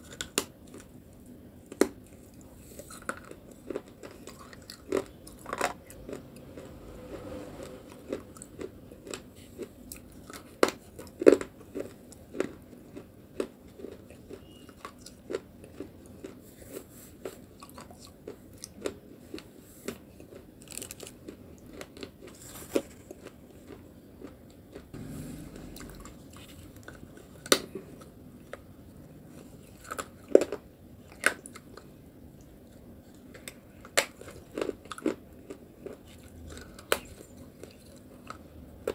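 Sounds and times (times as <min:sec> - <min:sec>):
person chewing crisp crunches: 0:00.0 - 0:38.9.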